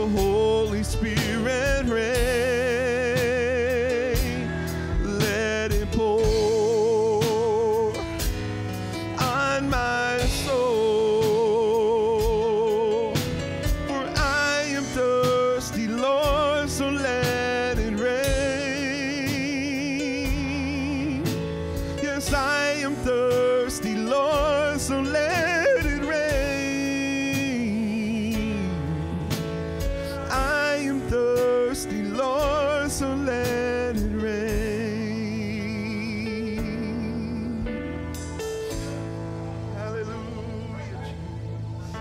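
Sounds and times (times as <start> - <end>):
electric piano chords: 0.0 - 42.0
person singing with vibrato: 0.0 - 42.0.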